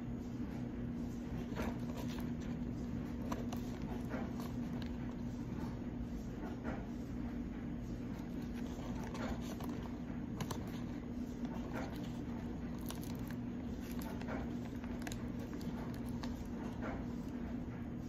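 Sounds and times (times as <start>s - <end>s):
steady low hum: 0.0s - 18.0s
soft clicks and squishes: 1.3s - 6.8s, 8.0s - 17.6s.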